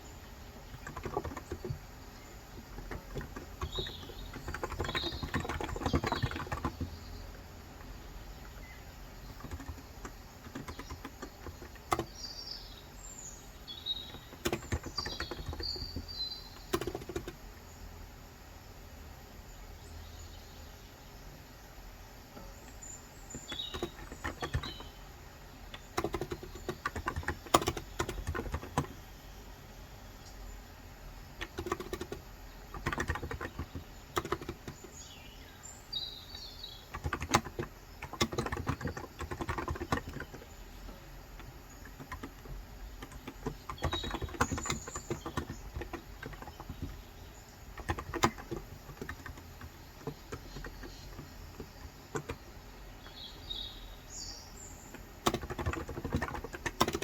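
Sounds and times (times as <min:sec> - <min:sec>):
birds chirping: 0:00.0 - 0:57.0
rapid keyboard key clicks: 0:00.6 - 0:07.0, 0:07.8 - 0:12.8, 0:13.5 - 0:17.5, 0:22.7 - 0:29.0, 0:31.2 - 0:35.2, 0:36.3 - 0:54.2, 0:54.8 - 0:57.0.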